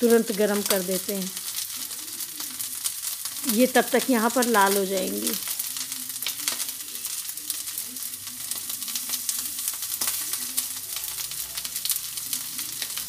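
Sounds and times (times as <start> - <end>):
crackling pops: 0.0 - 13.0
patties sizzling in oil: 0.0 - 13.0.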